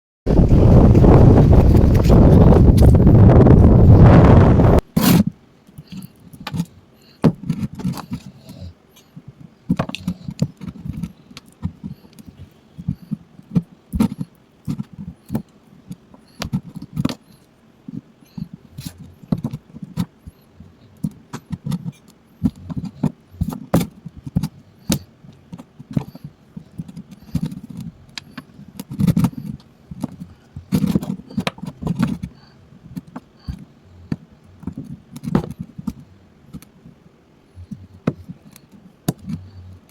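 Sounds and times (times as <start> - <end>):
hands clicking and scraping object: 4.8 - 37.0, 37.6 - 39.9.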